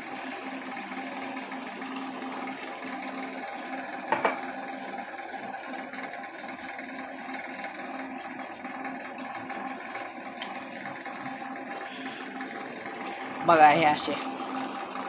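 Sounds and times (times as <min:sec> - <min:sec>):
oil sizzling while deep-frying: 0:00.0 - 0:15.0.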